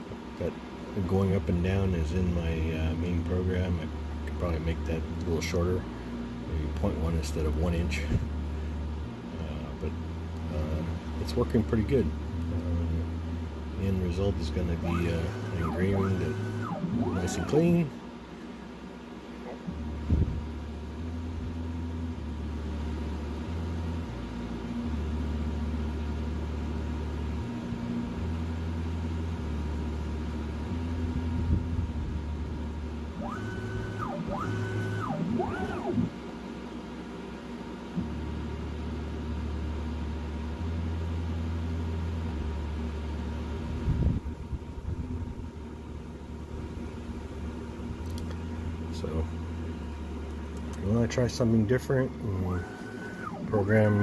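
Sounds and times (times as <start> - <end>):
low motor hum: 0.0 - 54.0
rising and falling motor whine: 1.2 - 18.1, 19.4 - 36.5, 37.9 - 54.0.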